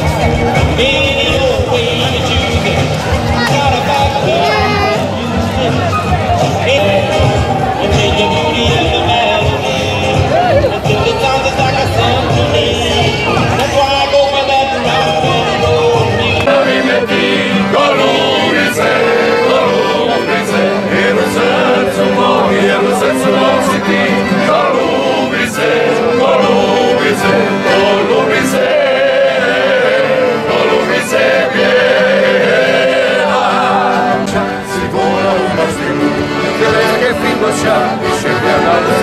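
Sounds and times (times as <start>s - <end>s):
accordion: 0.0s - 39.0s
men singing together: 0.0s - 39.0s
string instrument playing: 6.7s - 39.0s.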